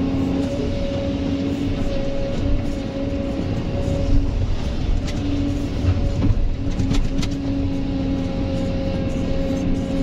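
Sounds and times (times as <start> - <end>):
excavator engine rumbling: 0.0 - 10.0.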